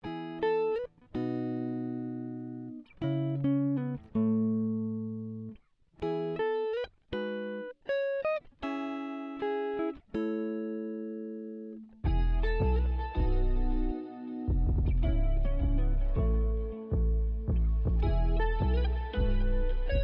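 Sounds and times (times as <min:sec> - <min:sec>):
clean plucked guitar: 0:00.0 - 0:20.0.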